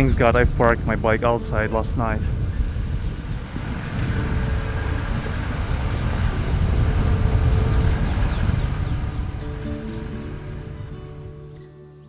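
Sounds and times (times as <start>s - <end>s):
car engine and tyres rumbling: 0.0s - 11.5s
wind buffeting microphone: 0.0s - 11.6s.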